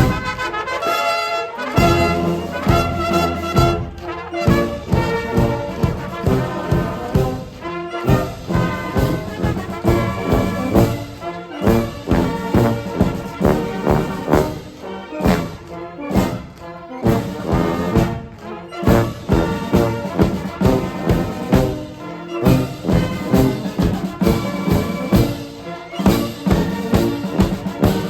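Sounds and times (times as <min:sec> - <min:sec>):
steady drum beat: 0:00.0 - 0:00.5, 0:01.8 - 0:28.0
military brass band playing a march: 0:00.0 - 0:28.0.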